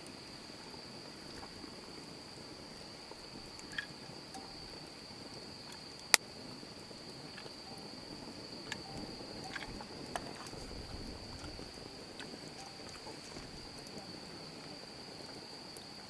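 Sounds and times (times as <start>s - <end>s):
high-pitched insect trilling: 0.0s - 16.0s.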